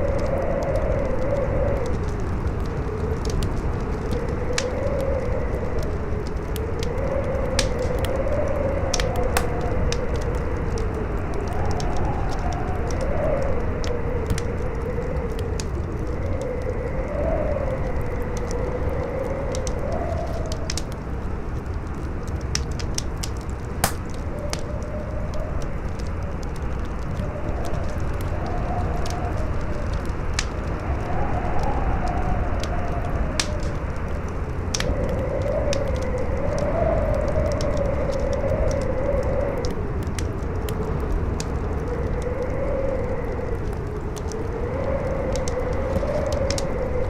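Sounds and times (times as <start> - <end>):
campfire crackling and popping: 0.0 - 47.0
wind howling: 0.0 - 47.0.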